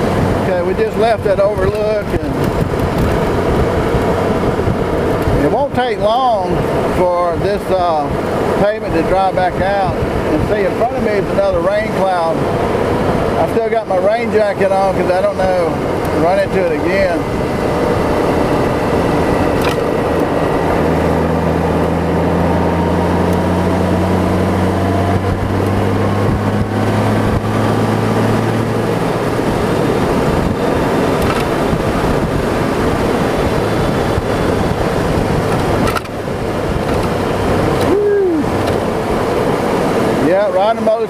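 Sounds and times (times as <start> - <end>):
motorcycle engine hum: 0.0 - 41.0
wind and tyre noise: 0.0 - 41.0.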